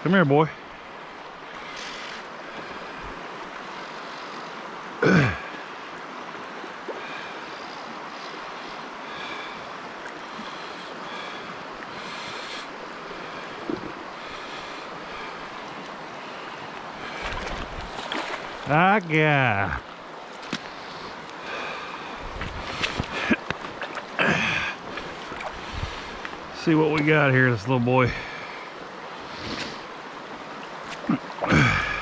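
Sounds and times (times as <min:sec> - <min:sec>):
creek water flowing: 0:00.0 - 0:32.0.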